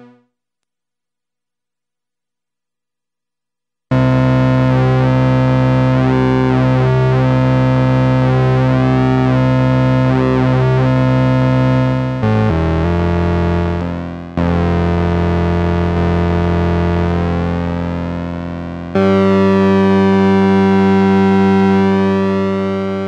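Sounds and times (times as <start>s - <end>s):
analog synthesizer note sweeping: 3.9s - 23.0s.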